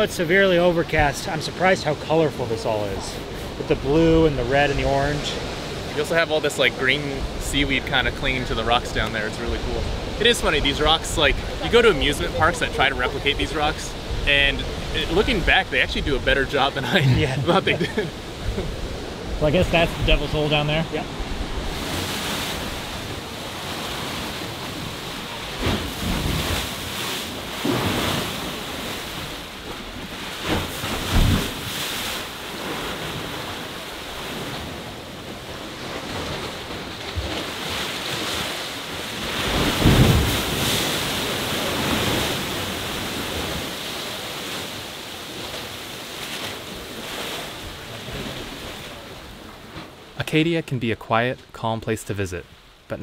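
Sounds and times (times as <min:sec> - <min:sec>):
ocean waves crashing on rocks: 0:00.0 - 0:50.6.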